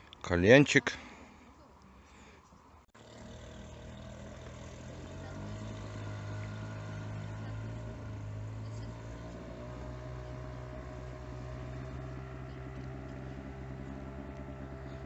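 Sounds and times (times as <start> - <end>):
motorboat engine humming: 1.9 - 15.0.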